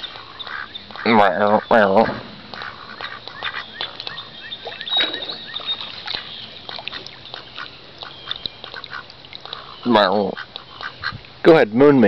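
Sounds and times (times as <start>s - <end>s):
ducks quacking: 0.0s - 11.6s.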